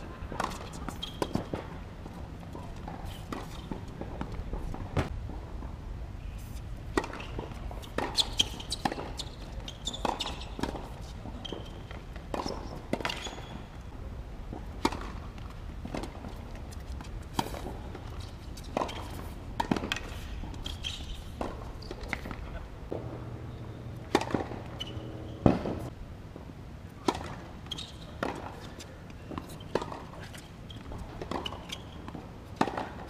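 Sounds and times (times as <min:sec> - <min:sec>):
racket hitting tennis ball: 0:00.1 - 0:05.1, 0:06.9 - 0:13.5, 0:14.5 - 0:25.9, 0:27.0 - 0:33.0
tennis ball bouncing on court: 0:00.3 - 0:05.1, 0:06.9 - 0:13.7, 0:14.5 - 0:25.9, 0:27.0 - 0:33.0.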